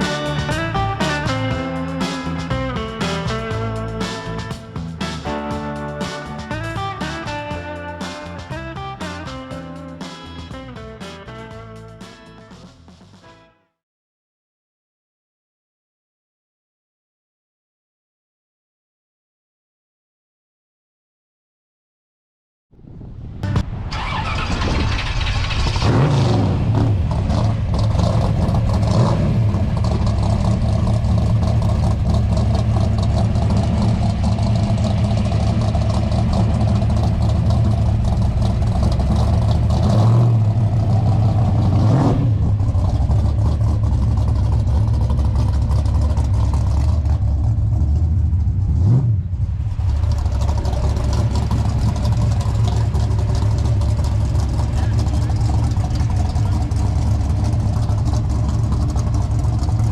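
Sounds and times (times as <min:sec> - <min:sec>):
car engine idling: 0:00.0 - 0:13.1, 0:23.5 - 0:59.9
engine throttle blips: 0:00.0 - 0:13.4, 0:22.9 - 0:59.9.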